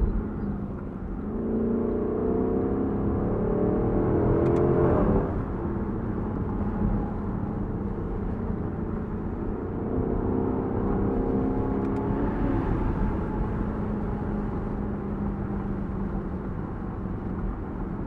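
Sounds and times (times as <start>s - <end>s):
car engine pulling under throttle: 0.0s - 18.0s
road and wind noise: 0.0s - 18.0s.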